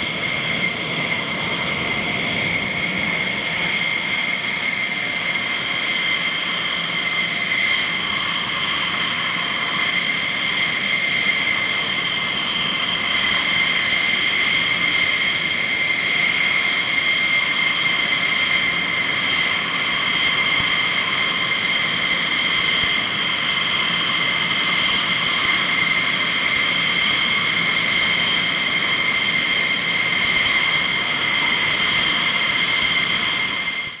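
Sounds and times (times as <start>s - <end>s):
jet engine idling whine: 0.0s - 34.0s.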